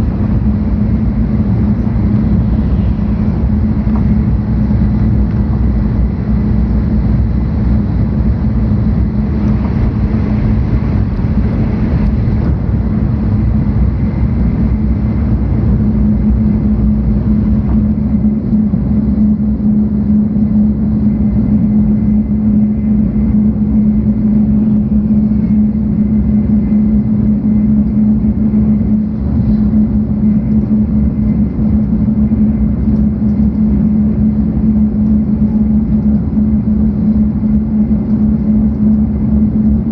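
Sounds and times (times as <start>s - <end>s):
constant hum: 0.0s - 39.9s
train interior rumble: 0.0s - 39.9s.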